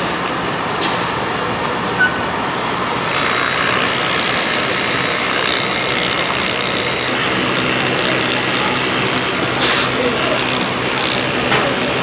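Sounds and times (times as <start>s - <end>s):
machine running: 0.0s - 12.0s.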